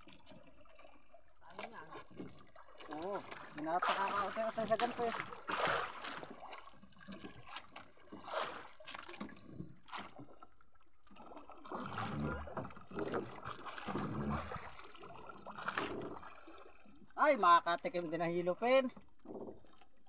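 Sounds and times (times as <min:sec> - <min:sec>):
water lapping against boat: 0:00.0 - 0:20.0.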